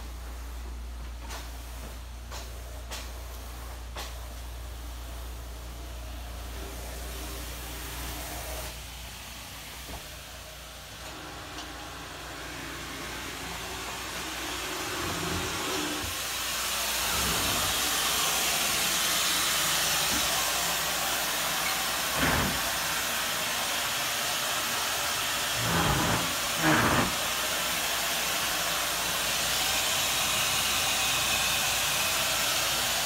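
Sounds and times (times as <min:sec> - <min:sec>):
drying equipment hissing air: 0:00.0 - 0:33.0.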